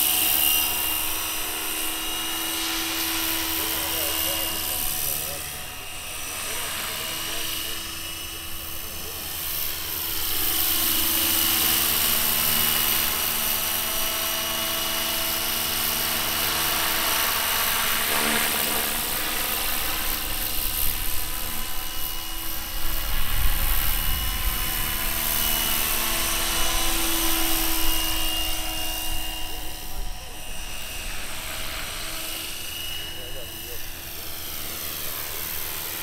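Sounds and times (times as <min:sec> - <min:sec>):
model helicopter whine: 0:00.0 - 0:36.0.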